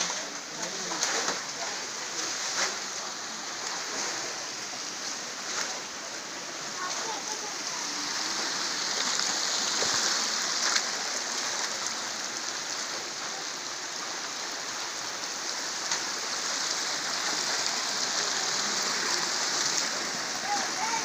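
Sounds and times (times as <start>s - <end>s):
water rushing over stones: 0.0s - 21.0s.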